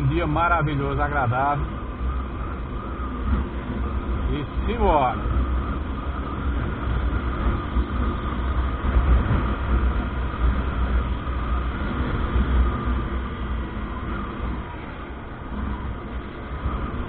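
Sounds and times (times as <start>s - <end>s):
motorcycle engine running: 0.0s - 17.0s
road noise: 0.0s - 17.0s
wind buffeting microphone: 0.0s - 17.0s.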